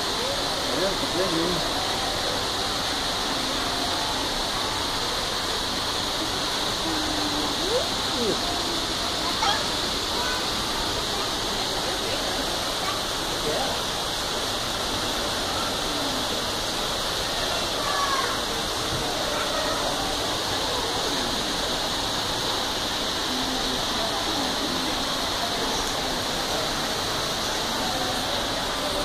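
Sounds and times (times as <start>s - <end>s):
faint voices: 0.0s - 29.0s
running water rushing: 0.0s - 29.0s.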